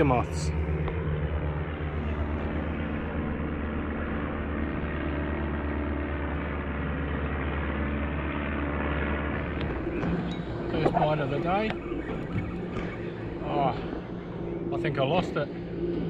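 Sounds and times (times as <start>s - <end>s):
biplanes droning overhead: 0.0s - 16.0s.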